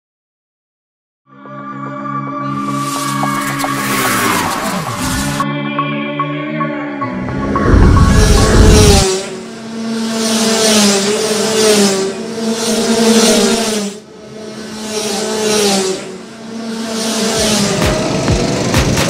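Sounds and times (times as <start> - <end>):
racing engines at high revs: 2.4 - 19.0.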